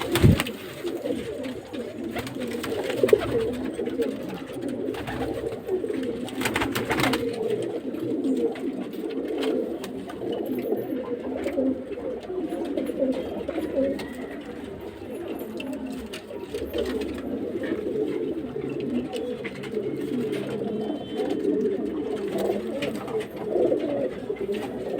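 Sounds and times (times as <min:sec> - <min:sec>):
pigeons cooing: 0:00.0 - 0:24.9.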